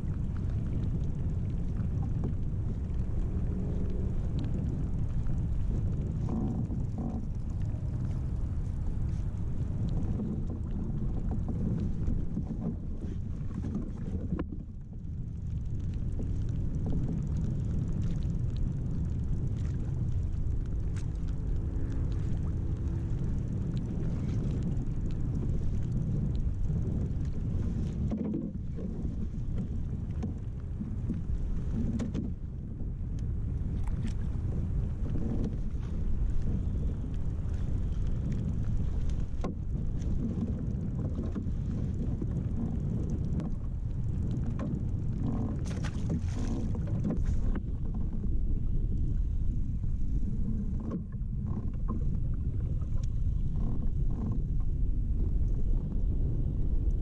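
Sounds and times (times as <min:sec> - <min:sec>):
water washing against kayak hull: 0:00.0 - 0:57.0
wind buffeting microphone: 0:00.0 - 0:57.0.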